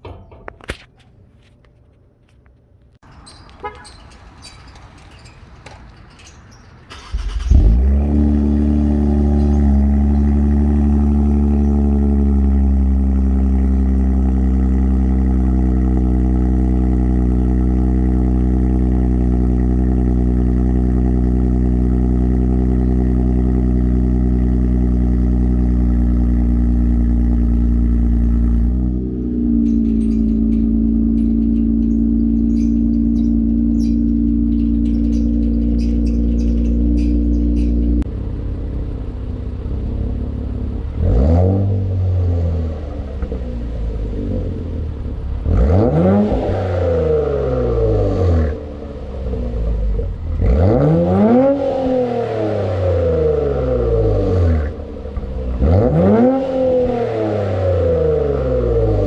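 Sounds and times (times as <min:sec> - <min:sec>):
car engine starting and idling: 0:02.9 - 0:59.0.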